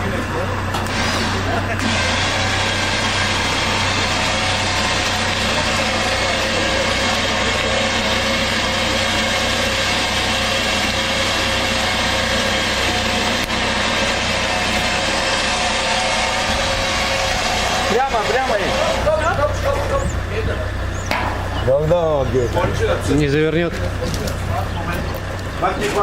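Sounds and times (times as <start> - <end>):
car engine idling with knock: 0.0 - 15.7, 16.5 - 26.0.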